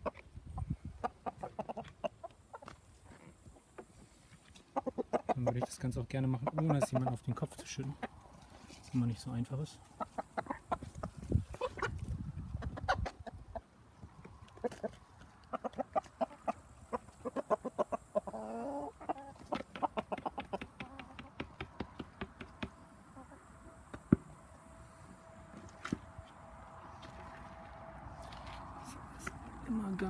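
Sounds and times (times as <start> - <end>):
chickens clucking: 0.0 - 24.2.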